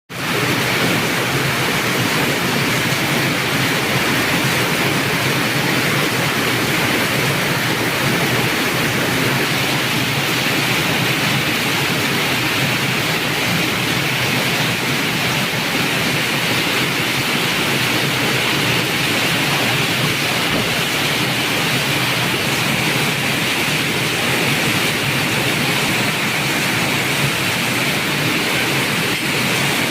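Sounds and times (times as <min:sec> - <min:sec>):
heavy rain: 0:00.1 - 0:29.9.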